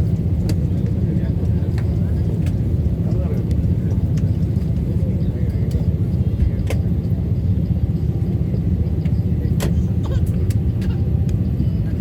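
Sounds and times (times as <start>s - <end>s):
jet cabin rumble: 0.0s - 12.0s.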